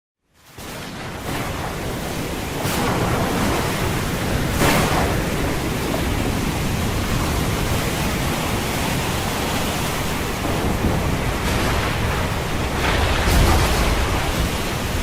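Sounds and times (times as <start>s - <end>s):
heavy waves crashing: 0.4s - 15.0s
wind rushing: 0.9s - 15.0s.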